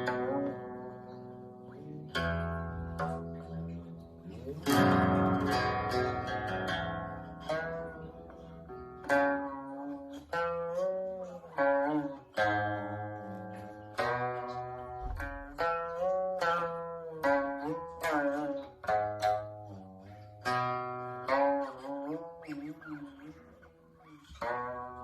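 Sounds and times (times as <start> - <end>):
guqin plucked notes: 0.0 - 25.0.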